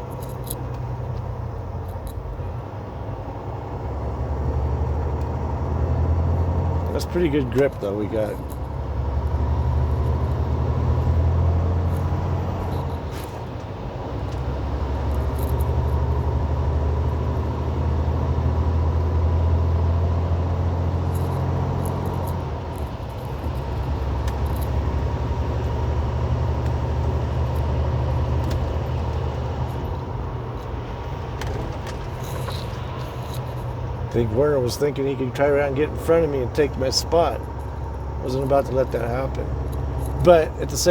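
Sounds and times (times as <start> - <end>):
truck diesel engine drone: 0.0 - 40.9.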